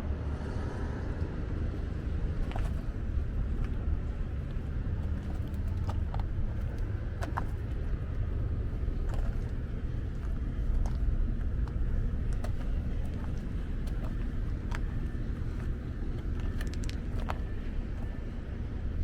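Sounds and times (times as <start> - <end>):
truck engine idling: 1.7 - 19.0.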